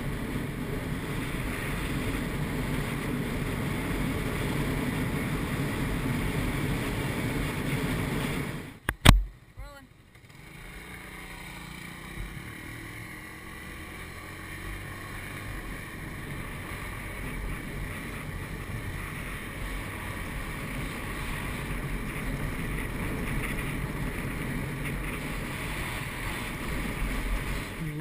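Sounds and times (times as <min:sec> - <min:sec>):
small motorbike engine running: 0:00.0 - 0:09.2, 0:10.0 - 0:28.0.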